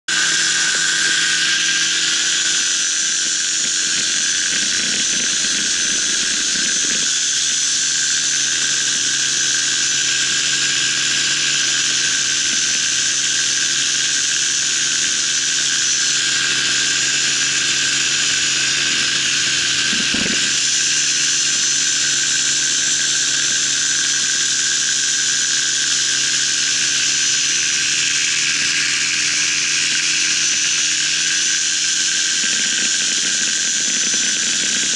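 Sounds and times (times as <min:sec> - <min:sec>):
paramotor engine and propeller: 0:00.0 - 0:34.9.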